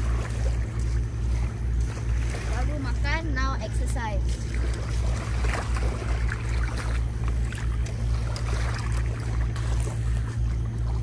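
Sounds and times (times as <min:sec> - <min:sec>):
soft wash of noise: 0:00.0 - 0:11.0
steady low rumble: 0:00.0 - 0:11.0.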